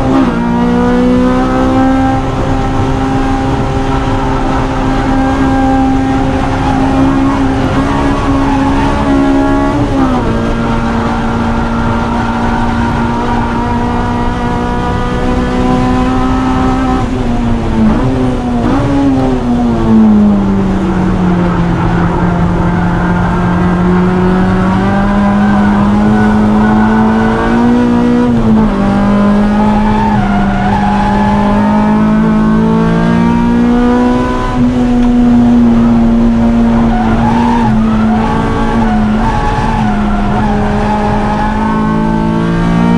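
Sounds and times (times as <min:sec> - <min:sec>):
car engine at high revs: 0:00.0 - 0:42.9.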